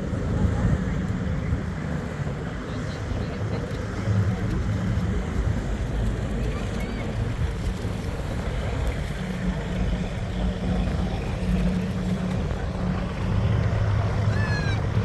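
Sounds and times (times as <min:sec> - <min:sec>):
boat engine droning: 0:00.0 - 0:15.0
water: 0:00.0 - 0:15.0
wind noise: 0:00.0 - 0:15.0.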